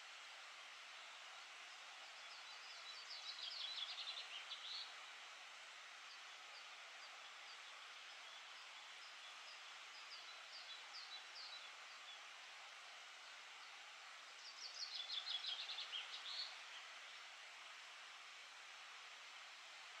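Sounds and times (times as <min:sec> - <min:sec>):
faint outdoor hiss: 0:00.0 - 0:20.0
songbirds chirping: 0:00.2 - 0:18.8.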